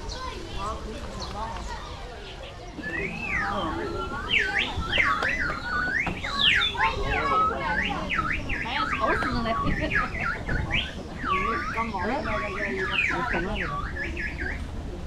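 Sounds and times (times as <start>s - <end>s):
birds singing: 0.0s - 15.0s
faint voices: 0.0s - 15.0s.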